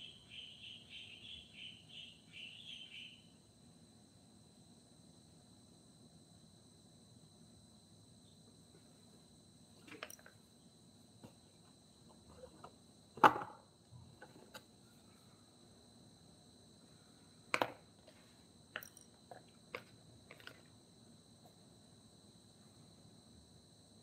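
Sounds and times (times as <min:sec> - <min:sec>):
steady high-pitched hum: 0:00.0 - 0:24.0.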